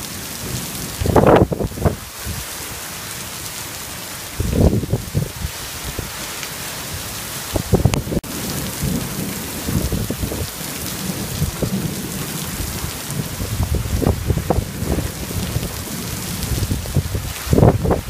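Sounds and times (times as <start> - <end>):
heavy rain hissing on pavement: 0.0 - 18.0.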